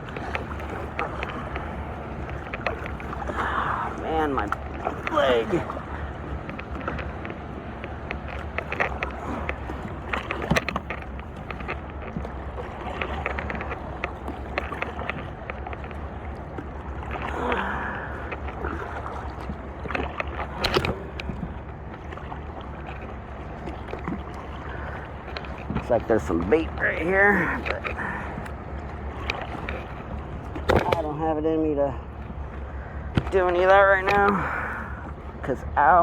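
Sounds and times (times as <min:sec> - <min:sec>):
paddle knocks: 0:00.0 - 0:35.5
water sloshing around paddle: 0:00.0 - 0:36.0.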